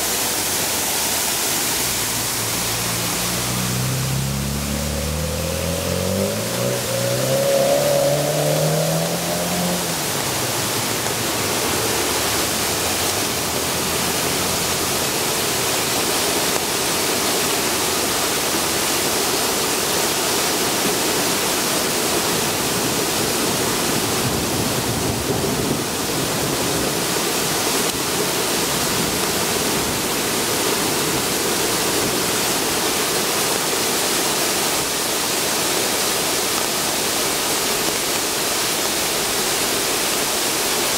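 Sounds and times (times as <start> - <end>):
car passing on wet road: 0.0 - 40.9
water rushing down stairs: 0.0 - 40.9.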